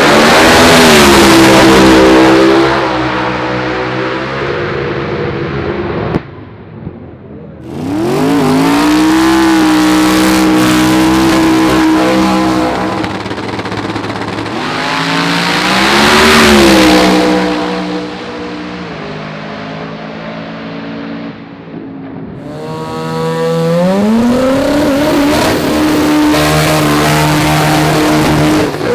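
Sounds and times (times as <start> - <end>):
drag racing car engine revving: 0.0 - 5.2, 7.6 - 20.0, 22.4 - 28.9.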